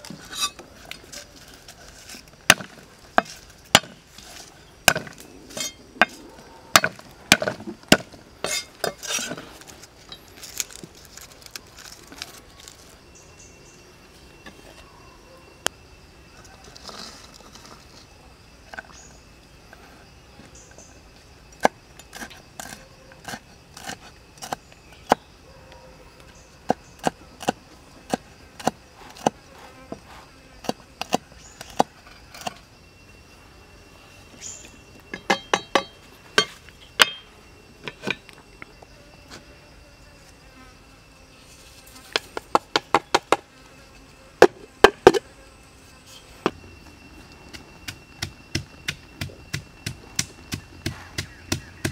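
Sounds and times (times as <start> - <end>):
insect buzz: 0.0 - 51.9.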